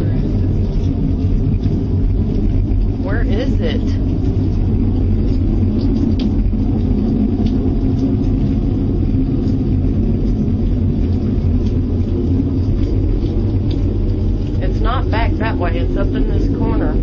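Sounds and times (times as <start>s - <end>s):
deep rumbling roar: 0.0s - 17.0s.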